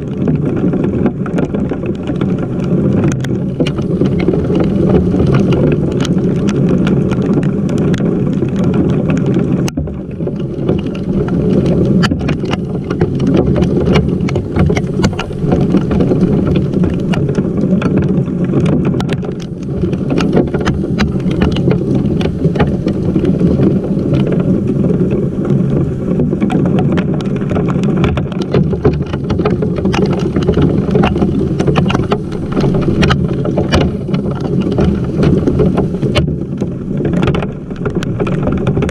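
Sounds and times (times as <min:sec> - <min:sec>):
drops ticking on microphone: 0:00.0 - 0:38.9
heavy rain low rumble: 0:00.0 - 0:38.9.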